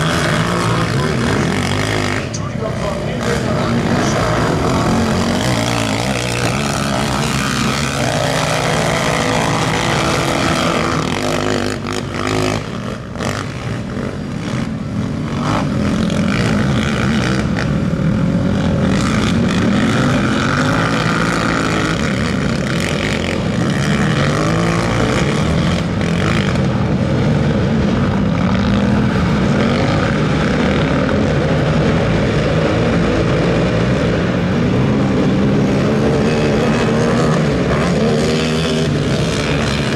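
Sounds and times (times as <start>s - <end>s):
racing quad engines revving: 0.0s - 39.9s.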